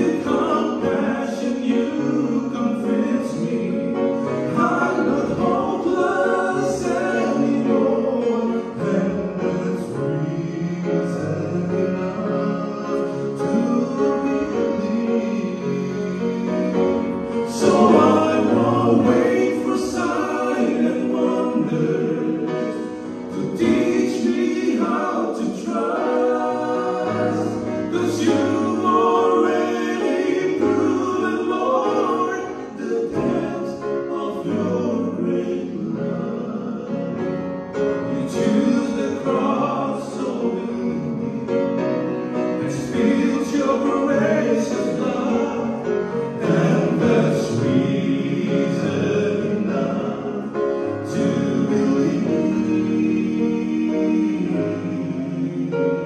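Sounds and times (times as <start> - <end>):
grand piano: 0.0 - 56.0
men singing gospel song: 0.0 - 56.0.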